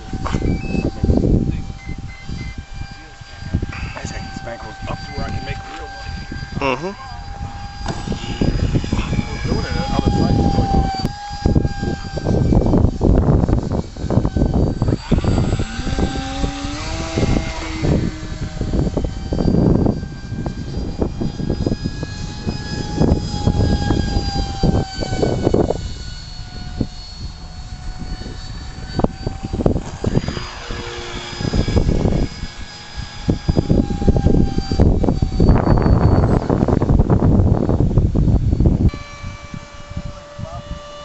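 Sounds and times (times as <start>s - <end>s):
gusty wind on microphone: 0.0s - 41.0s
model jet fan whining: 0.0s - 41.0s.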